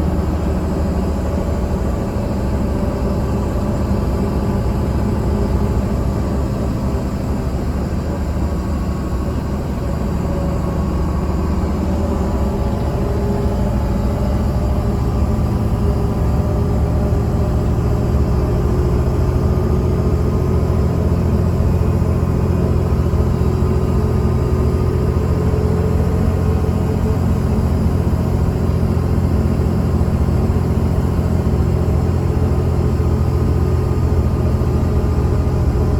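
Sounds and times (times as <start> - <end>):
bus diesel engine droning: 0.0 - 35.9.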